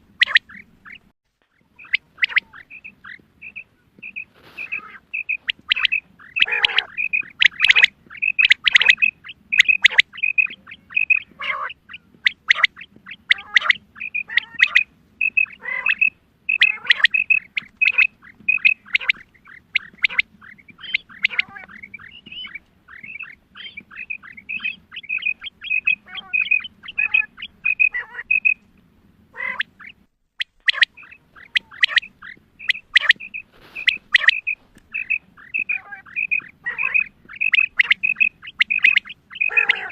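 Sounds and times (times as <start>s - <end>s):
quail calling: 0.0s - 28.7s, 29.3s - 39.9s.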